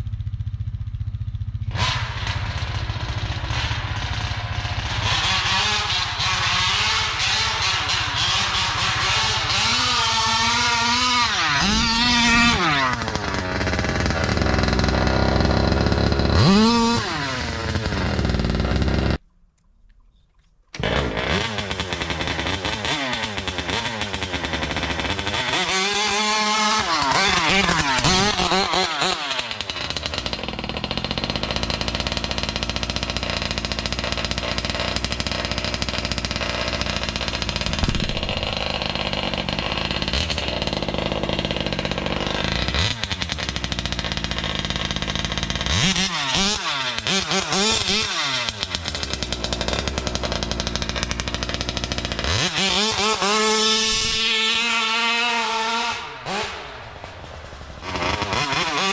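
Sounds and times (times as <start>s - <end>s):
rc car engine revving: 1.7s - 19.2s, 20.7s - 58.9s.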